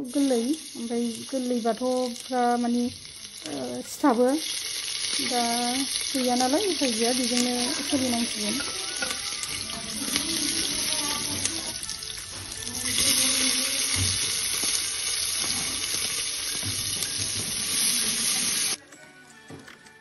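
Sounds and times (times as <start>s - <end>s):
hot oil sizzling: 0.0s - 18.8s.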